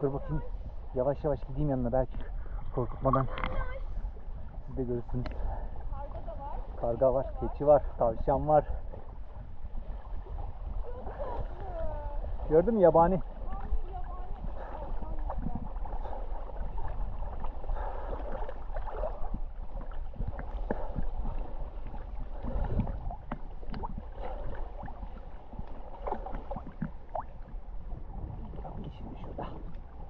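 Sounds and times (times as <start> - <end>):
low steady rumble: 0.0 - 30.0
water lapping and splashing: 0.0 - 30.0.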